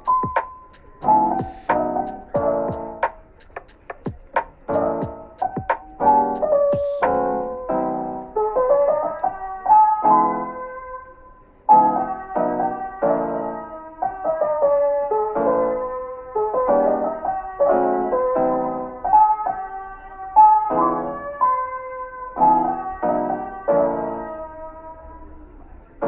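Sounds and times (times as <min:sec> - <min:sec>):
soft piano music: 0:00.0 - 0:26.0.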